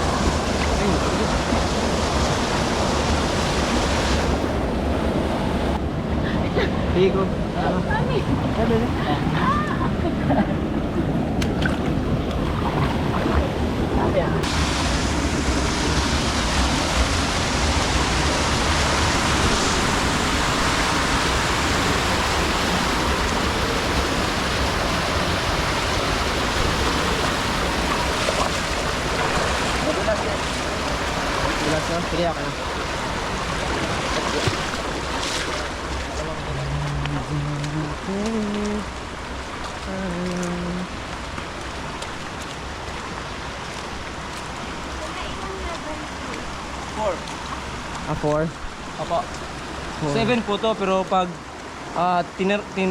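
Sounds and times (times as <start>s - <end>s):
rushing water hiss: 0.0s - 4.6s, 14.4s - 52.9s.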